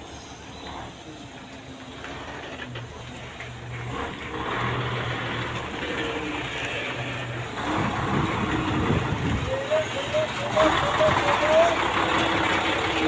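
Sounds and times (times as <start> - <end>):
truck engine running: 0.0 - 13.0
vehicle noise: 0.0 - 13.0.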